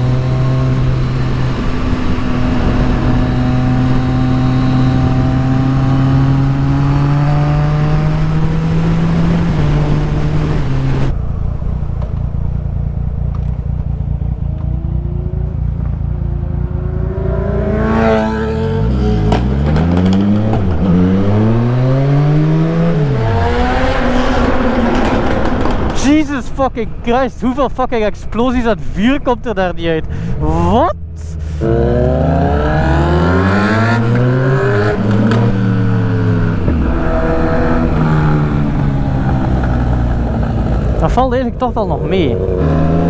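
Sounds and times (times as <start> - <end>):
motorcycle engine revving: 0.0 - 26.1, 30.0 - 43.0.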